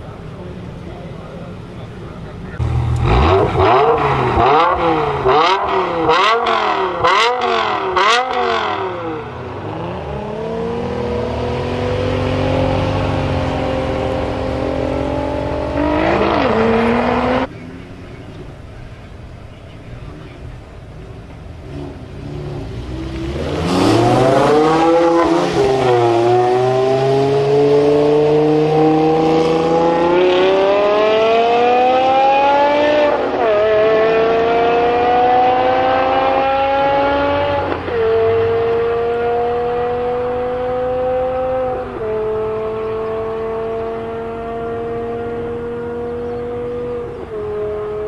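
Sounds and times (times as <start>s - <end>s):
car engine accelerating hard: 2.2s - 17.6s, 21.6s - 48.0s.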